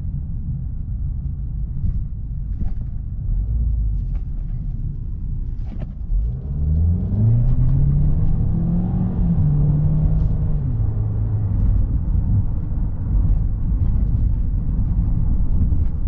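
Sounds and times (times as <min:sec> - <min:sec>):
road rumble inside car: 0:00.0 - 0:16.0
car engine accelerating: 0:01.7 - 0:16.0.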